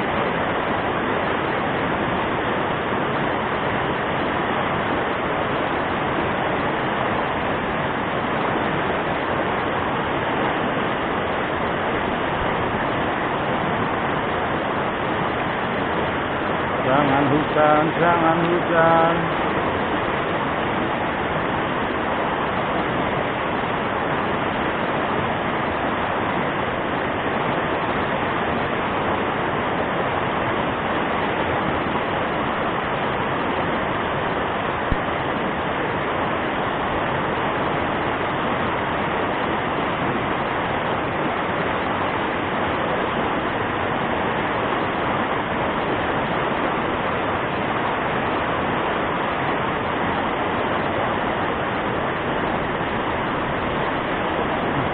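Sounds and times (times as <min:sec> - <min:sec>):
river water rushing over rapids: 0:00.0 - 0:54.9.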